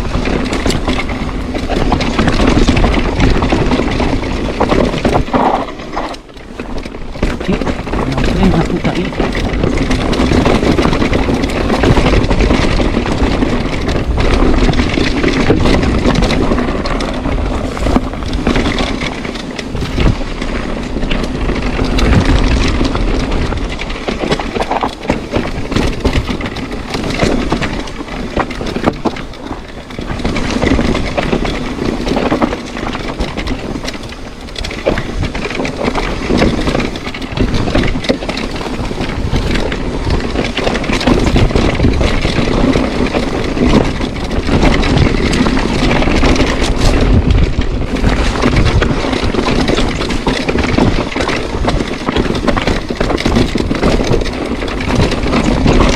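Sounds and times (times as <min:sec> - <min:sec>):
bike knocks and rattles: 0:00.0 - 0:55.9
bike rushing noise: 0:00.0 - 0:55.9.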